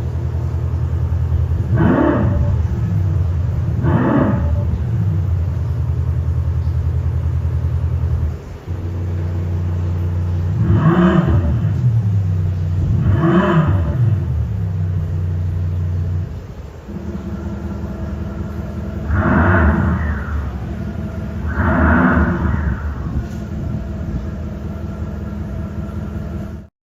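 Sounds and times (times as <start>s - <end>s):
synthetic engine idle: 0.0s - 26.7s
synthetic engine revs: 0.0s - 26.7s.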